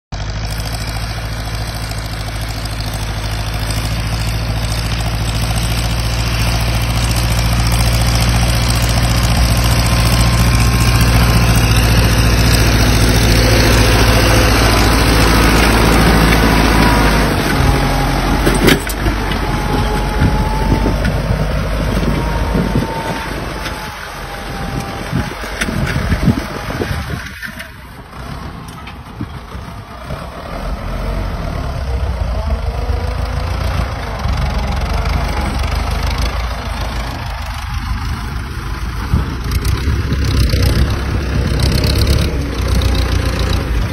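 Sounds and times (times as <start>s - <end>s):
tractor diesel engine rumbling: 0.1s - 43.9s.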